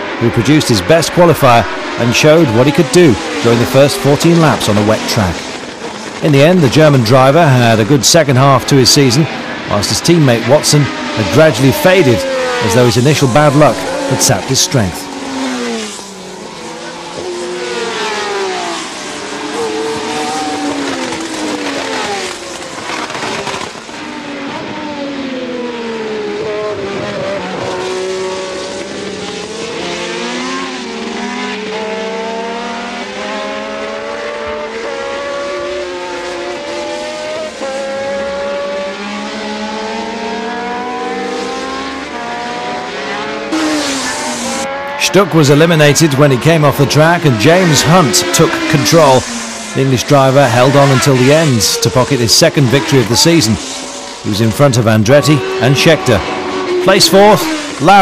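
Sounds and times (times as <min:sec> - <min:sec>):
race car engines passing: 0:00.0 - 0:58.0.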